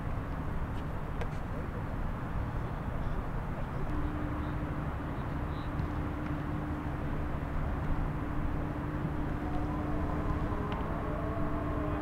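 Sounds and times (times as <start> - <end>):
constant low hum: 0.0 - 12.0
outdoor background rumble: 0.0 - 12.0.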